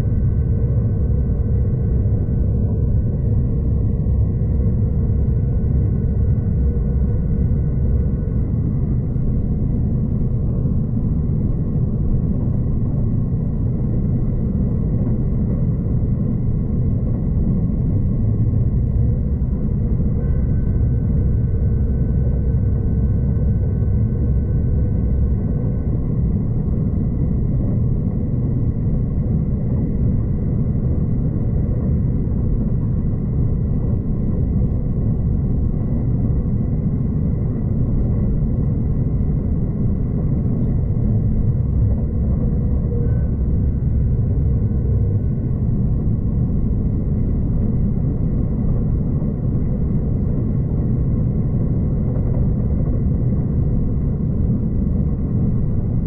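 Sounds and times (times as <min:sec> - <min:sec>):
faint high whine: 0:00.0 - 0:56.0
train rumble inside carriage: 0:00.0 - 0:56.0.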